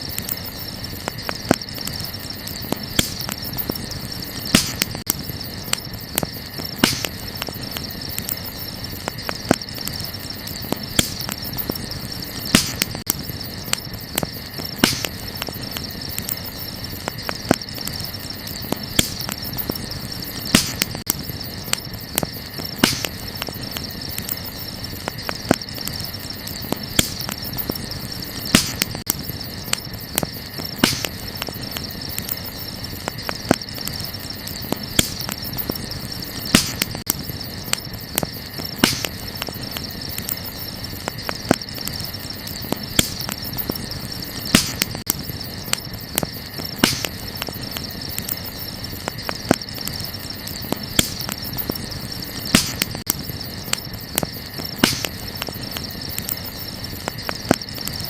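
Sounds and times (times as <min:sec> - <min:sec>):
night insects chirring: 0:00.0 - 0:58.0
wood fire crackling and popping: 0:00.0 - 0:58.0.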